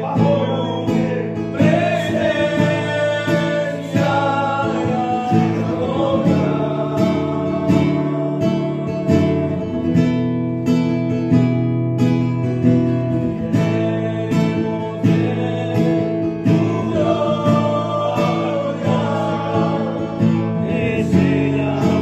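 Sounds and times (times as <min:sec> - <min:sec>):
man singing a hymn: 0:00.0 - 0:10.0, 0:13.3 - 0:22.0
acoustic guitar strumming: 0:00.0 - 0:22.0.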